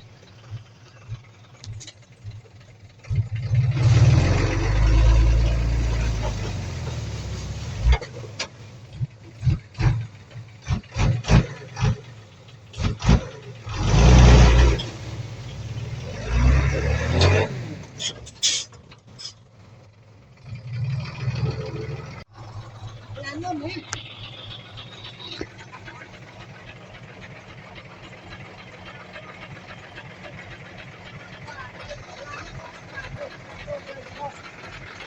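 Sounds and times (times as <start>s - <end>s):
diesel engine revving: 0.0s - 35.0s.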